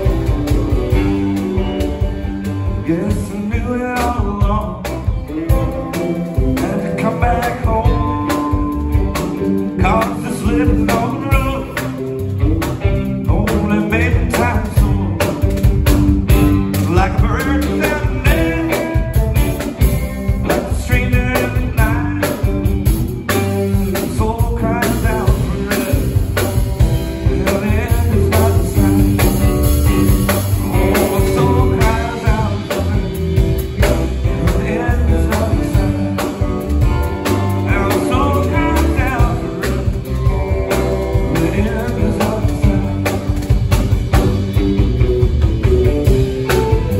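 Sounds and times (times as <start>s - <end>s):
person singing: 0.0s - 15.7s, 16.7s - 44.2s
drum kit beat: 0.0s - 46.9s
electric guitars: 0.0s - 46.9s.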